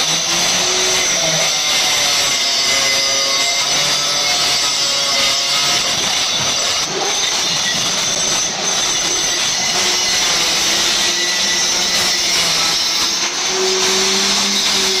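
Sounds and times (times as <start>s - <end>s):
marble cutter grinding stone: 0.0s - 15.0s.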